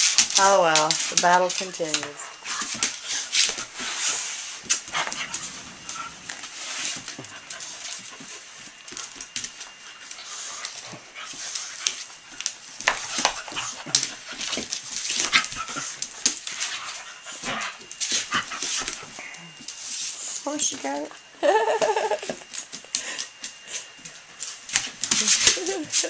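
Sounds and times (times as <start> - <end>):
dogs scuffling: 0.0 - 21.3, 21.9 - 26.0.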